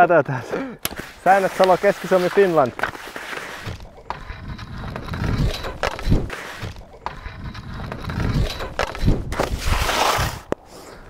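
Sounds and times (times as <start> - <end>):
skis scraping over snow: 0.9 - 11.0.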